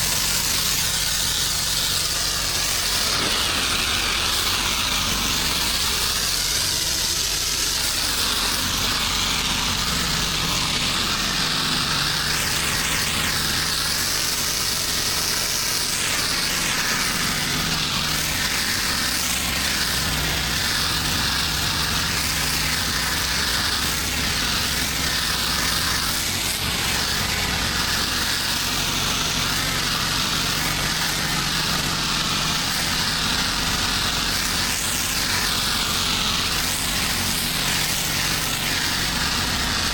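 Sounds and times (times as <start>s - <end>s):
pressure washer engine running: 0.0s - 39.9s
spraying water hiss: 0.0s - 39.9s.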